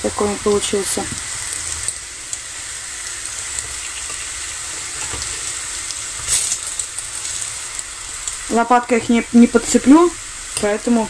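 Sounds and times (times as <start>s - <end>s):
pancakes sizzling in oil: 0.0s - 11.0s.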